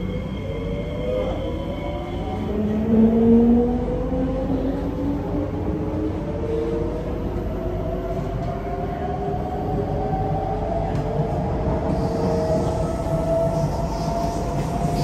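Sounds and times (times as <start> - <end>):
train rumble: 0.9 - 15.0.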